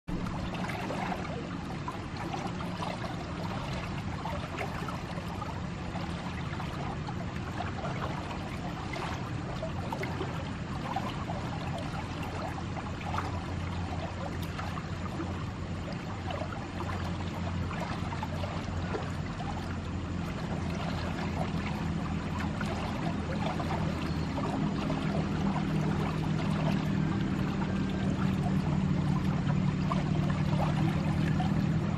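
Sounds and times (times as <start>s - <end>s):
water rushing down a channel: 0.0s - 31.9s.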